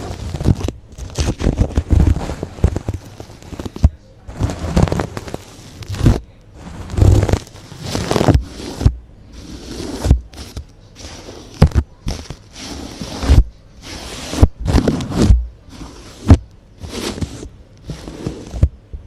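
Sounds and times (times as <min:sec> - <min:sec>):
object scraping against microphone: 0:00.0 - 0:18.7.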